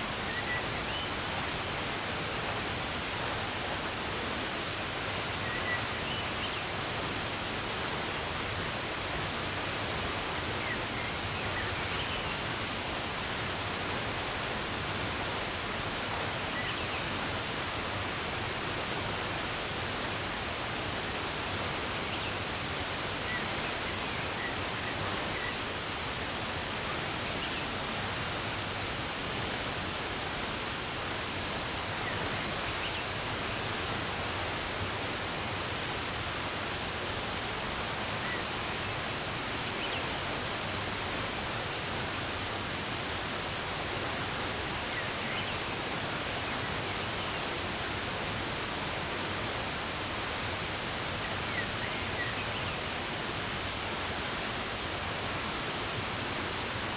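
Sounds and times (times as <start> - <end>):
running water rushing: 0.0 - 56.9.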